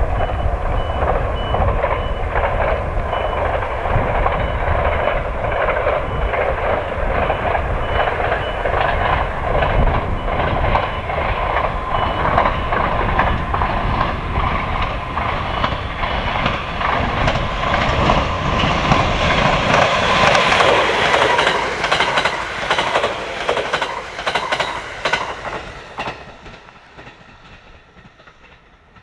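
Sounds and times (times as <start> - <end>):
train wheels clicking over joints: 0.0 - 29.0.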